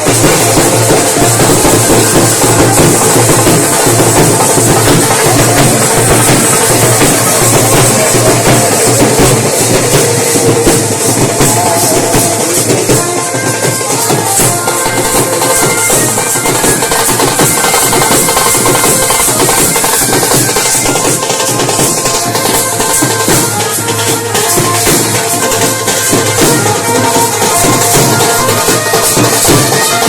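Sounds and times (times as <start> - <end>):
fast dense drumming: 0.0 - 30.0.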